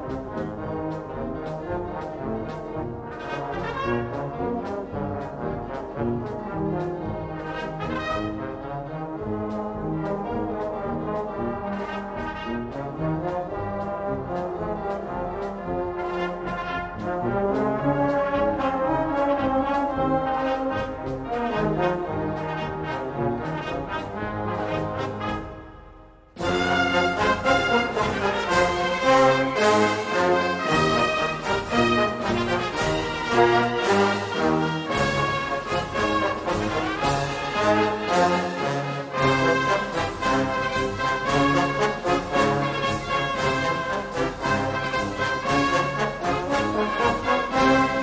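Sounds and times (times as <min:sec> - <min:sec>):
wind band playing a march: 0:00.0 - 0:48.0.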